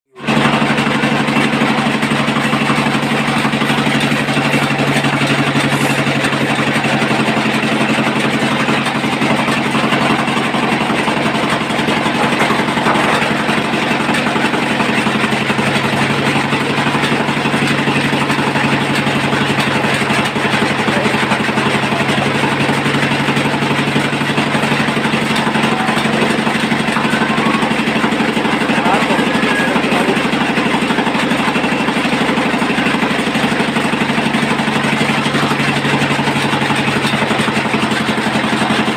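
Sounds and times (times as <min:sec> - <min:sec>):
engine running steadily: 0:00.1 - 0:38.9.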